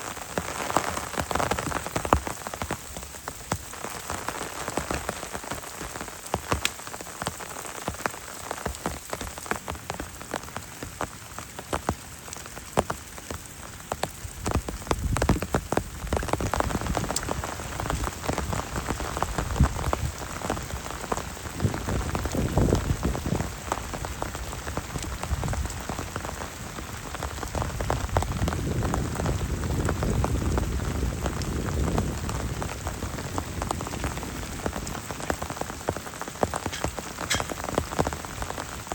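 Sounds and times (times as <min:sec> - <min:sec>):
heavy rain falling: 0:00.0 - 0:38.9
raindrops ticking on a surface: 0:00.0 - 0:38.9.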